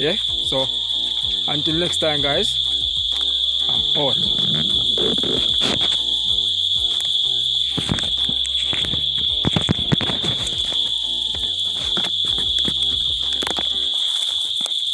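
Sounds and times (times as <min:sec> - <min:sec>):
insects chirring: 0:00.0 - 0:14.9.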